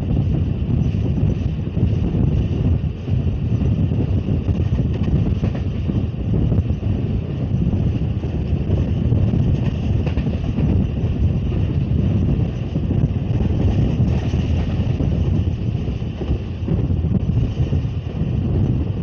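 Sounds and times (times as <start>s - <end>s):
train carriage rumble: 0.0s - 19.0s
wind buffeting microphone: 0.0s - 19.0s.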